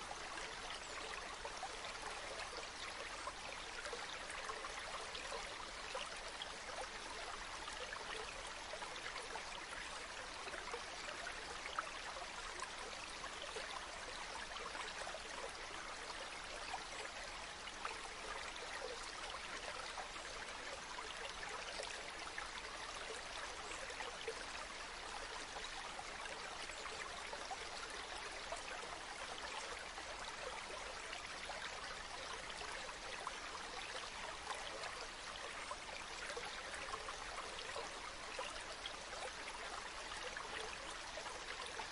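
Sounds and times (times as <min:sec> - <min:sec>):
stream babbling over rocks: 0:00.0 - 0:41.9.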